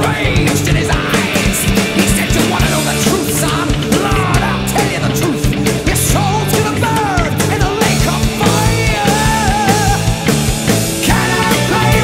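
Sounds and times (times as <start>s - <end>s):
heavy metal music: 0.0s - 12.0s.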